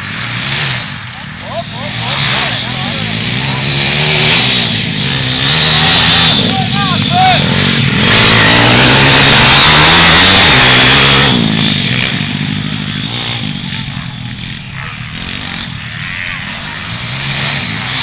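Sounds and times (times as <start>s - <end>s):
pit bike engines racing: 0.0s - 18.0s.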